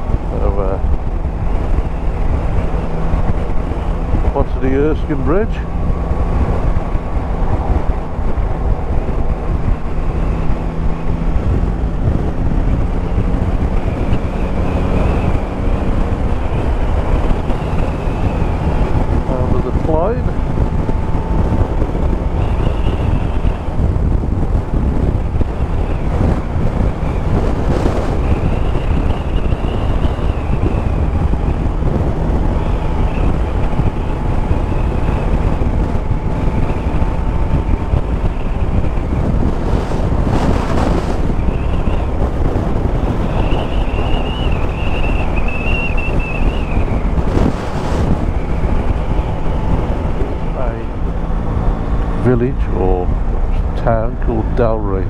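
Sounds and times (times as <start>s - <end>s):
motorcycle engine drone: 0.0s - 55.0s
wind rushing over microphone: 0.0s - 55.0s.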